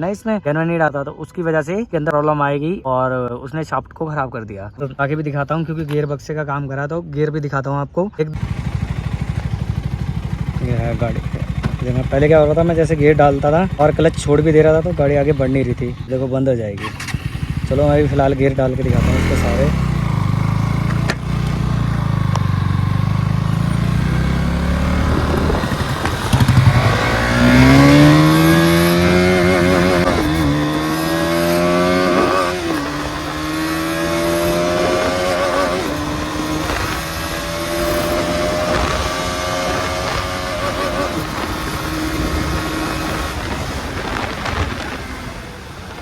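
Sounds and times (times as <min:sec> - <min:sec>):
motorcycle engine idling and revving: 0:08.3 - 0:46.0.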